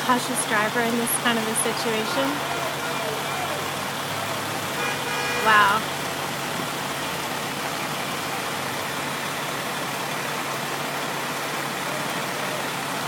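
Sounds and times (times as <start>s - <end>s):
rain hissing: 0.0s - 13.0s
vehicle engine idling: 0.0s - 13.0s.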